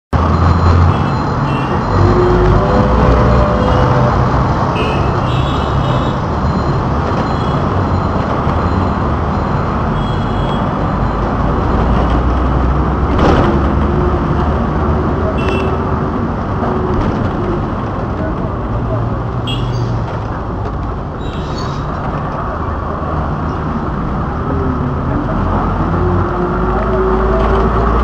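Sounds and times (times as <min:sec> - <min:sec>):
vehicle engine and road rumble: 0:00.1 - 0:28.0.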